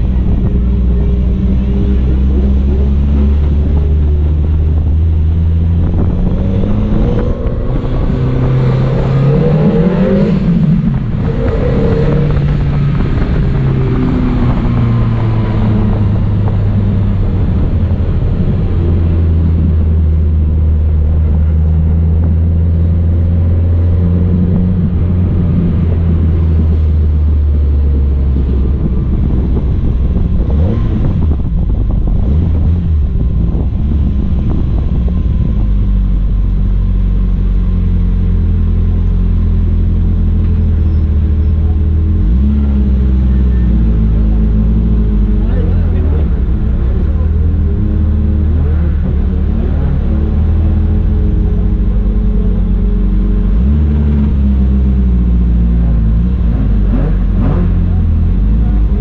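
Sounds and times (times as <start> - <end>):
car engine at low revs: 0.0 - 59.0.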